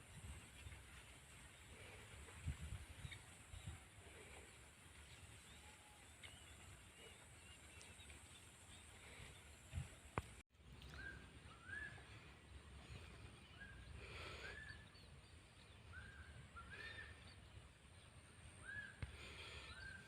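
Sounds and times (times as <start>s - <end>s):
faint rural ambience: 0.0s - 20.0s.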